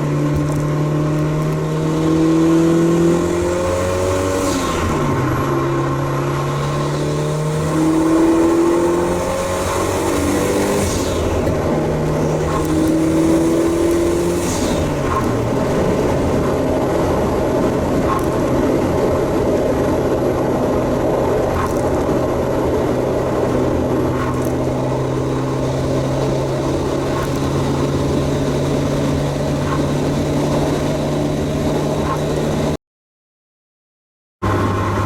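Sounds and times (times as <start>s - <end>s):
car engine droning at cruise: 0.0s - 32.8s, 34.4s - 35.0s
road noise: 0.0s - 32.8s, 34.4s - 35.0s.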